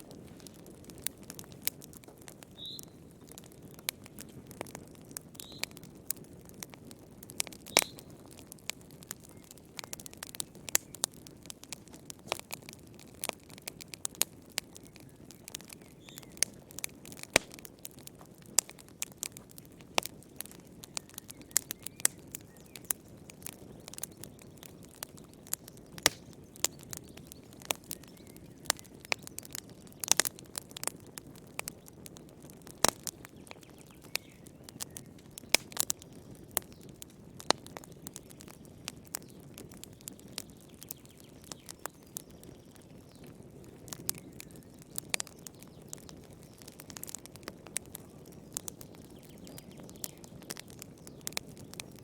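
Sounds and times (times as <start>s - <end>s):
firewood popping and crackling: 0.0s - 52.0s
low rumble of flames: 0.0s - 52.0s.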